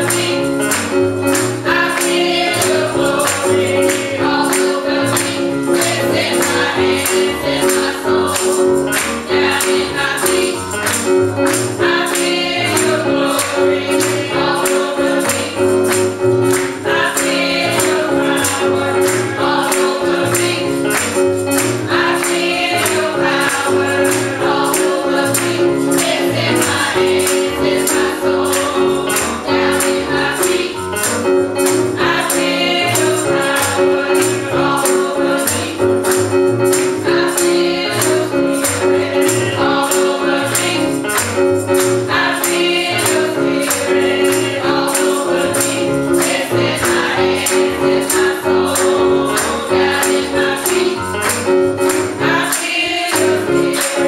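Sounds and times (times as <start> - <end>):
gospel choir singing: 0.0 - 54.0
hand clapping: 0.0 - 54.0
keyboard accompaniment: 0.0 - 54.0.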